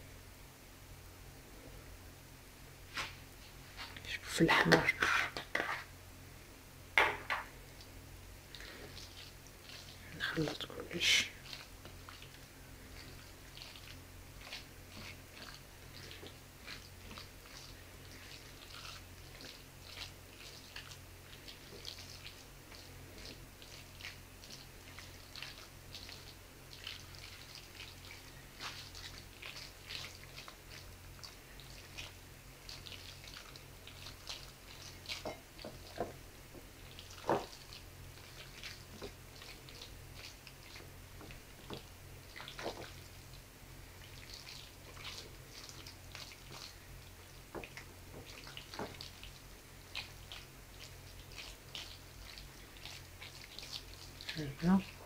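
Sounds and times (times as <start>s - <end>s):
low steady hum: 0.0s - 55.0s
spatula mashing food squelches: 8.5s - 55.0s.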